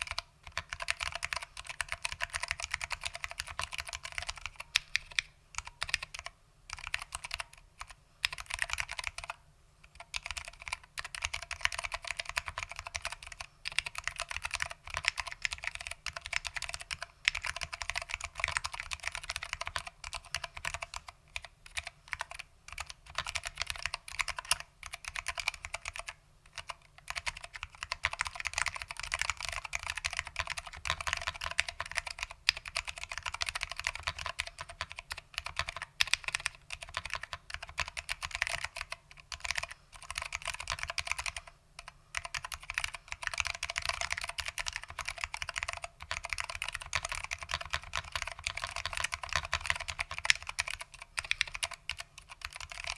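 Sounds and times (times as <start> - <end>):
clicky keyboard typing: 0.0 - 52.9.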